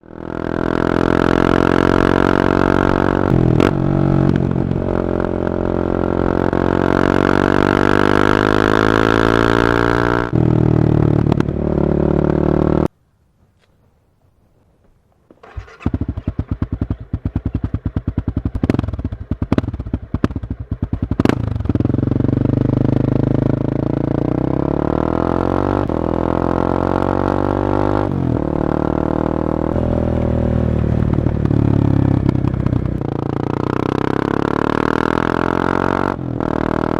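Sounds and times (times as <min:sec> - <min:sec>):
motorcycle engine accelerating: 0:00.0 - 0:12.9, 0:15.4 - 0:36.9.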